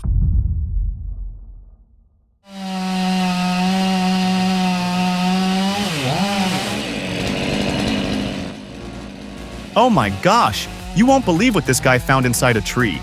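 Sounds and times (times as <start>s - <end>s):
chainsaw cutting wood: 2.5s - 13.0s.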